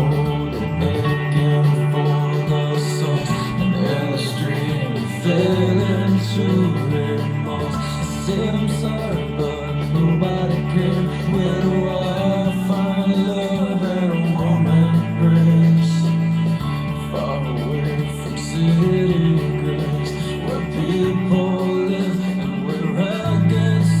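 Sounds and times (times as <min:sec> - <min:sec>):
bass line: 0:00.0 - 0:24.0
guitar: 0:00.0 - 0:24.0.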